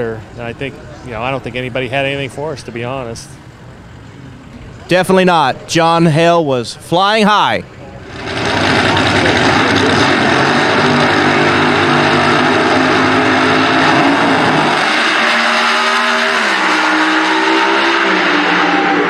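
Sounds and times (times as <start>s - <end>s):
drag racing engines at full throttle: 0.0s - 6.0s, 7.1s - 19.0s.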